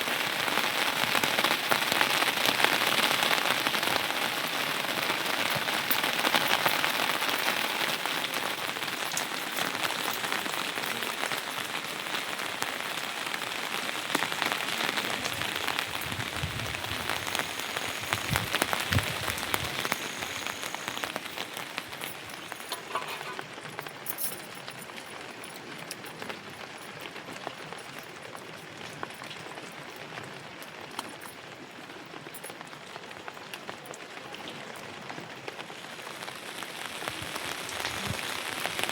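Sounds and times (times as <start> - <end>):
rain drops ticking: 0.0 - 38.9.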